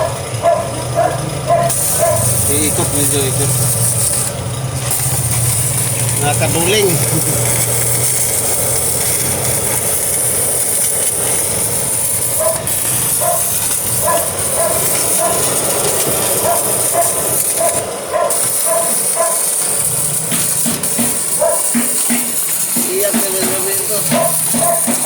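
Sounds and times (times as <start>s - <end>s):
welding arc hissing: 0.0s - 25.0s.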